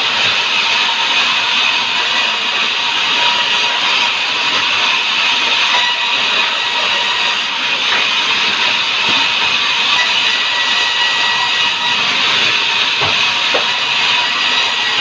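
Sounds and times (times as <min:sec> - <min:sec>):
band saw cutting log: 0:00.0 - 0:15.0.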